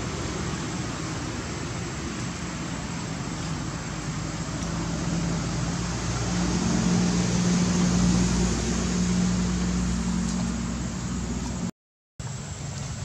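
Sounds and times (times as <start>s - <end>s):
constant hiss: 0.0s - 13.0s
low mechanical hum: 0.0s - 13.0s.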